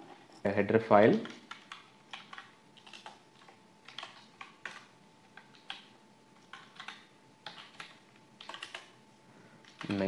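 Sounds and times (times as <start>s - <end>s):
keyboard typing: 1.1s - 9.0s, 9.6s - 10.0s.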